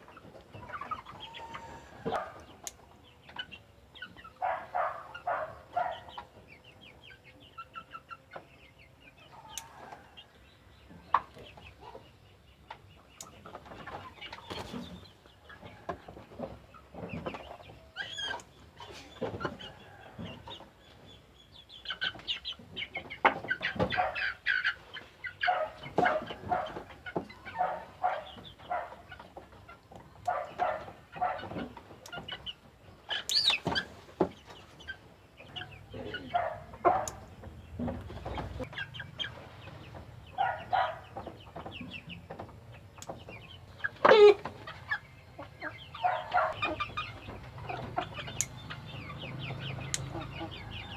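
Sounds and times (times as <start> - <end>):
chickens clucking and calling: 0.0 - 50.9.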